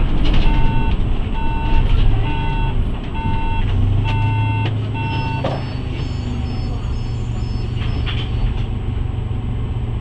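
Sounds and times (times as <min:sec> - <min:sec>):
bus engine rumble: 0:00.0 - 0:10.0
bus warning beeper beeping: 0:00.4 - 0:08.6.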